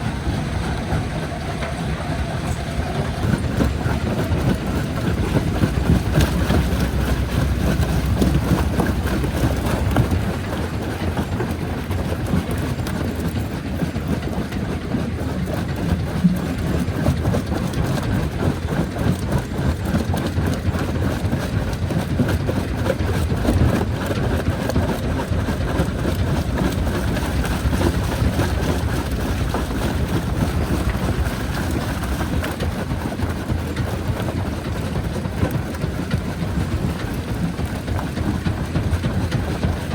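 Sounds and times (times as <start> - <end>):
jaw crusher rumbling: 0.0 - 39.9.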